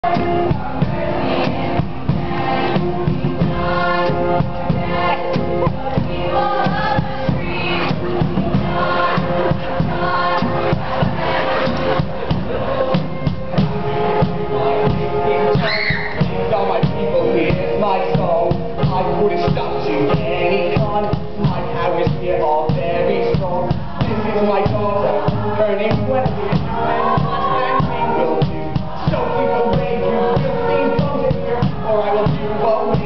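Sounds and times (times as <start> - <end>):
group singing over a steady beat: 0.0 - 33.0.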